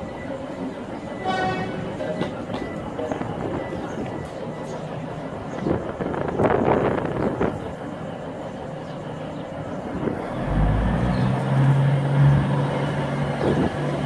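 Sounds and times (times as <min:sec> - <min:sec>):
diesel train engines powering up: 0:00.0 - 0:14.0.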